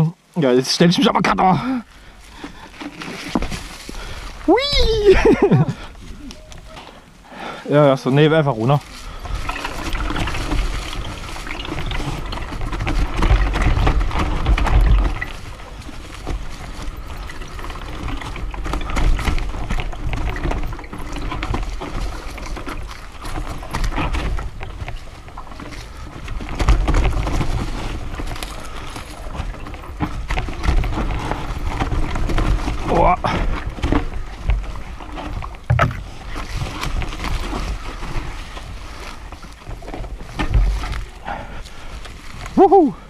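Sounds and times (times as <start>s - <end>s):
bike rattling over bumps: 0.0s - 43.0s
tyres rolling over leaves and dirt: 0.0s - 43.0s.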